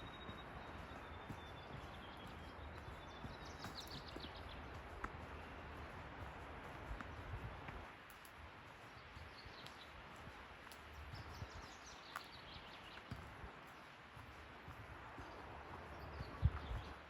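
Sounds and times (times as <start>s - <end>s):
soft footsteps on a trail: 0.0s - 17.0s.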